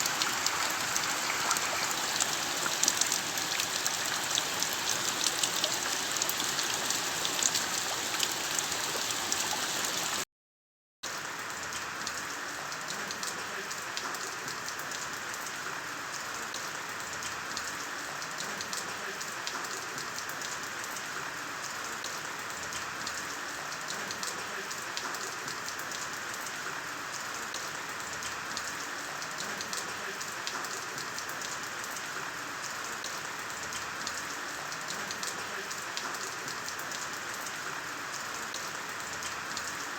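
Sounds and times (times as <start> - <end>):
steady rain patter: 0.0 - 10.2, 11.0 - 39.9.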